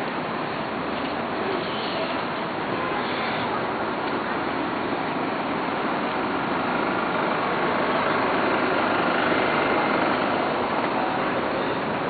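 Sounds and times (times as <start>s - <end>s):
street traffic passing: 0.0s - 12.0s.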